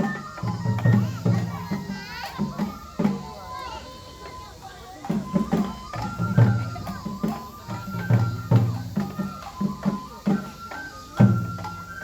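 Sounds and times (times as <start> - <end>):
bamboo flute melody: 0.0 - 12.0.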